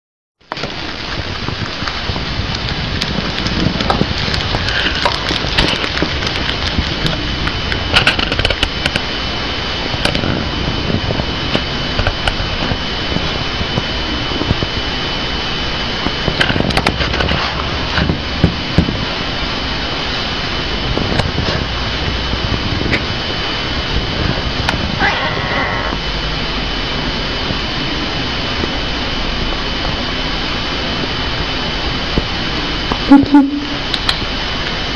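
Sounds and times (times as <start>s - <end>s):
steady hiss: 0.4s - 34.9s.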